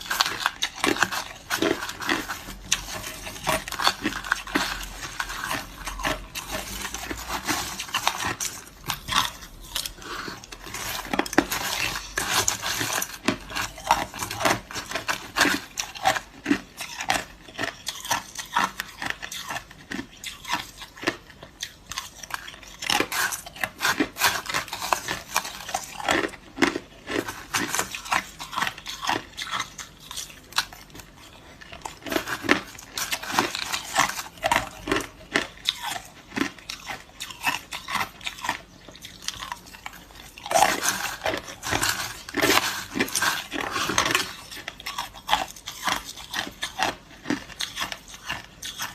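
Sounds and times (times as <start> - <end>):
crushed ice crunching and clinking: 0.0 - 48.9.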